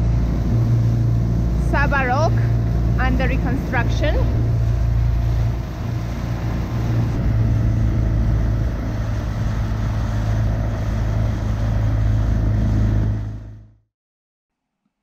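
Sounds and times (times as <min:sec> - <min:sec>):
rushing water noise: 0:00.0 - 0:13.6
outboard motor running: 0:00.0 - 0:13.8.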